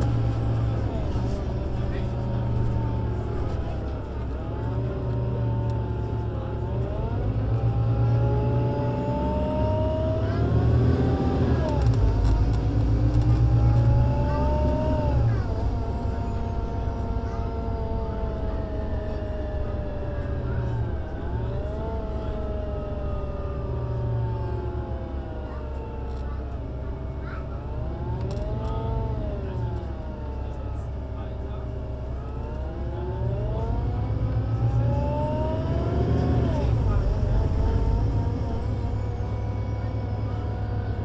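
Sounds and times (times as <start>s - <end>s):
bus engine accelerating: 0.0s - 41.0s.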